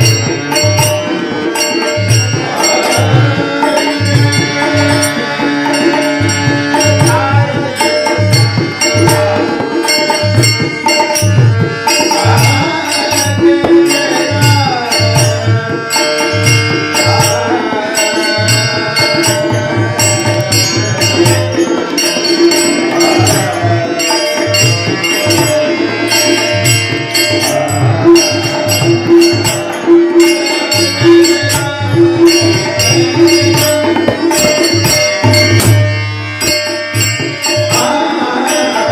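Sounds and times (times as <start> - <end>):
tabla drumming: 0.0 - 38.9.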